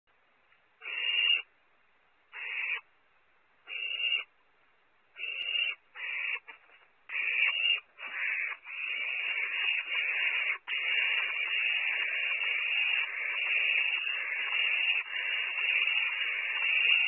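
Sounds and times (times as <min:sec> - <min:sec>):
owl chicks hissing: 0:00.8 - 0:01.5, 0:02.3 - 0:02.9, 0:03.7 - 0:04.3, 0:05.2 - 0:17.0.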